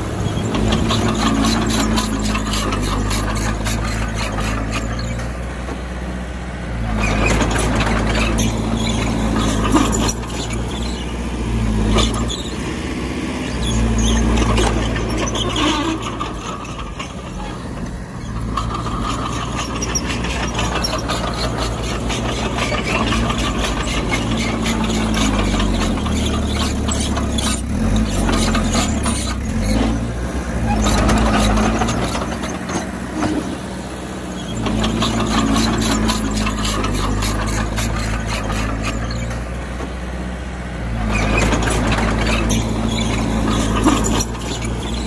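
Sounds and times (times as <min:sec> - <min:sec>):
bulldozer diesel engine: 0:00.0 - 0:45.0
metallic squeals: 0:00.2 - 0:05.4, 0:06.9 - 0:12.8, 0:13.4 - 0:33.6, 0:34.3 - 0:39.5, 0:41.0 - 0:45.0.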